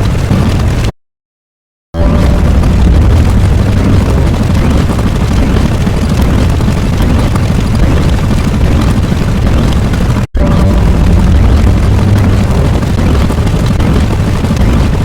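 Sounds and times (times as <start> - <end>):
loud low rumbling: 2.0 - 15.0.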